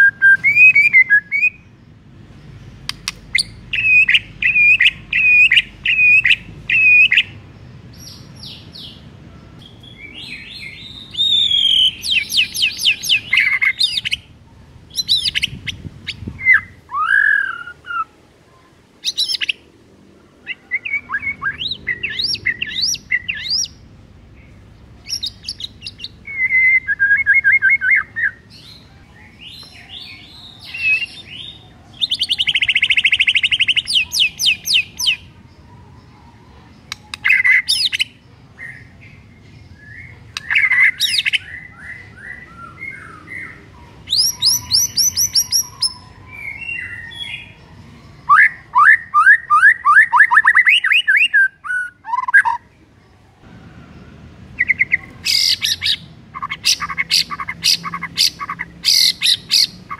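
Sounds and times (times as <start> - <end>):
songbird singing whistled notes: 0.0 - 1.8, 2.9 - 14.3, 14.9 - 18.2, 19.0 - 19.7, 20.4 - 23.8, 24.4 - 52.7, 54.0 - 59.9.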